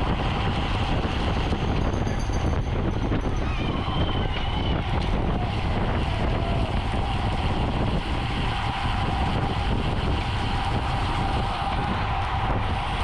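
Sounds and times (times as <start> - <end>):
road and tyre noise: 0.0 - 13.0
wind rushing over microphone: 0.0 - 13.0.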